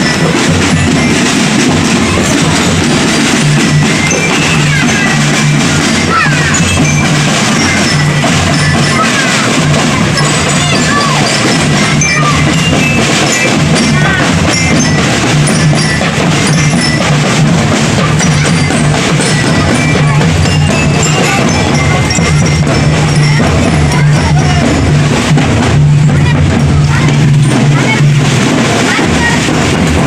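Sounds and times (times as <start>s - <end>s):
drums: 0.0s - 30.0s
metallic bell-like notes: 0.0s - 30.0s.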